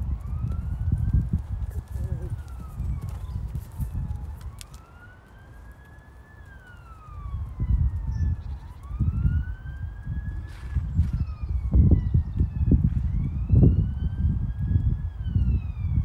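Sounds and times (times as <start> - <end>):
emergency siren wailing: 0.0 - 16.0
low rumbling buffets: 0.0 - 16.0.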